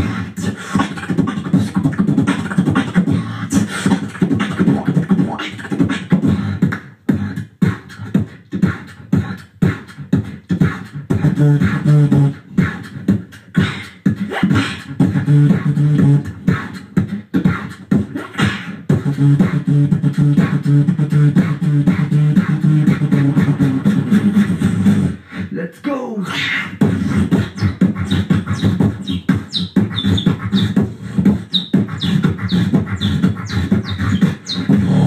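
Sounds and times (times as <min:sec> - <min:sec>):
beatboxing into microphones: 0:00.0 - 0:35.0.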